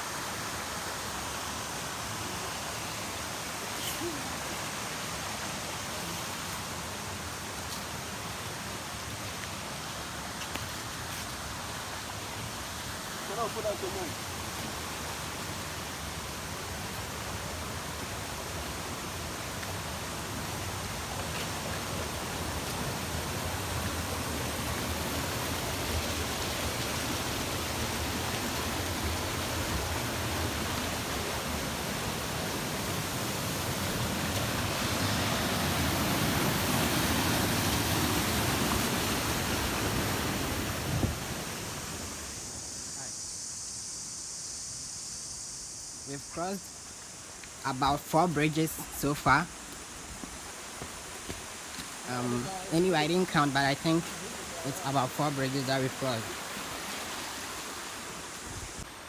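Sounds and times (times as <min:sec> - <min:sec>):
stream water rushing: 0:00.0 - 0:43.0, 0:45.9 - 0:59.0.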